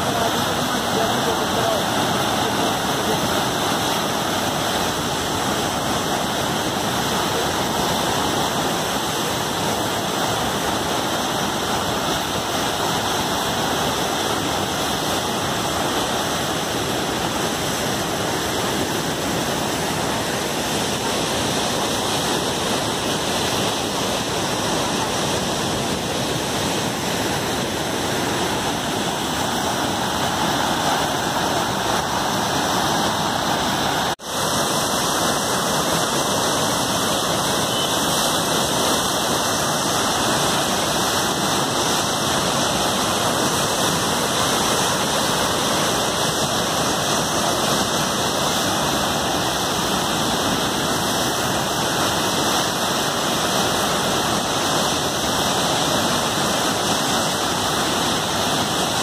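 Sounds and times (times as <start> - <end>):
water rushing and churning: 0.0 - 59.0.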